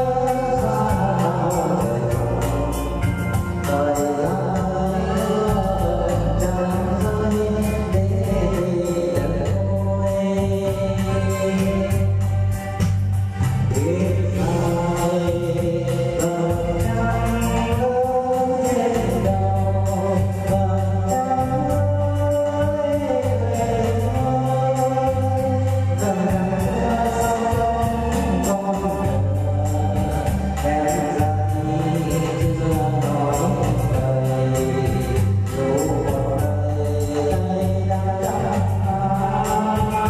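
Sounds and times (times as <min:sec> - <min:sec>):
electronic organ accompaniment: 0:00.0 - 0:40.0
person singing: 0:00.0 - 0:40.0.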